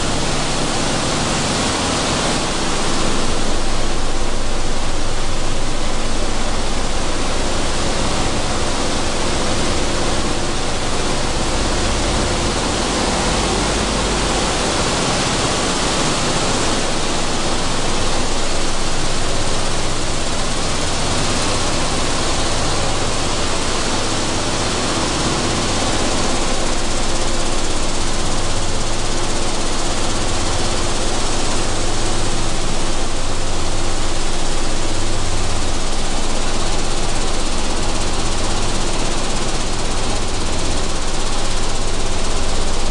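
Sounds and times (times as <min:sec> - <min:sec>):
hulling machine running: 0:00.0 - 0:42.9.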